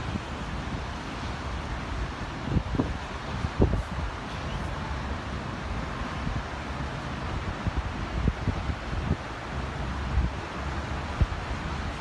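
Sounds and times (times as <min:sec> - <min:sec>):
steady rain hiss: 0:00.0 - 0:12.0
wind gusting against microphone: 0:00.0 - 0:12.0.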